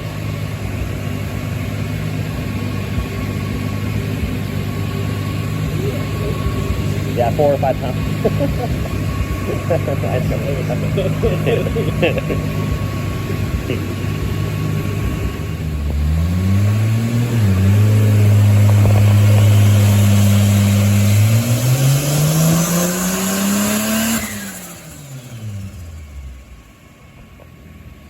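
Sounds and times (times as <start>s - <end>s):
turbocharged engine revving on dyno: 0.0s - 26.7s.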